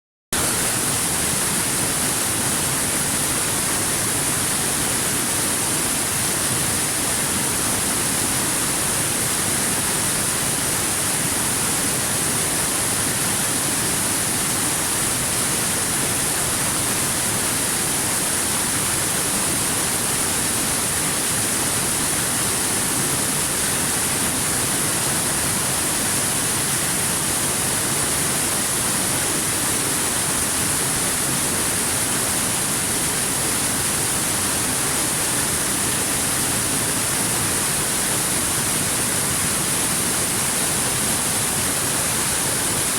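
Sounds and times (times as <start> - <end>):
water rushing over rocks: 0.4 - 42.9.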